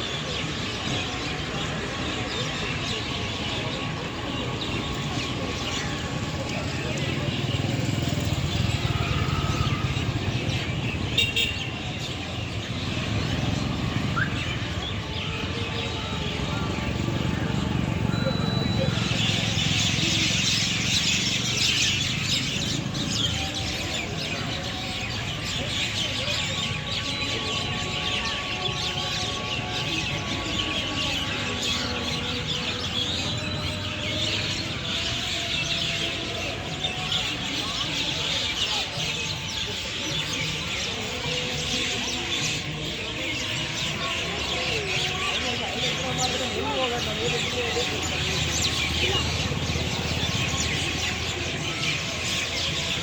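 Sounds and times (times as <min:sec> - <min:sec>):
flock of birds chirping: 0:00.0 - 0:53.0.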